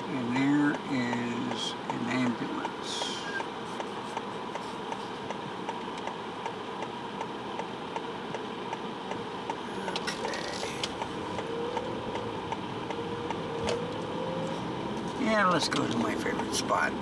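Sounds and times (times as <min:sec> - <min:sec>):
car engine hum: 0:00.0 - 0:17.0
road noise inside car: 0:00.0 - 0:17.0
turn signal relay ticking: 0:00.1 - 0:17.0.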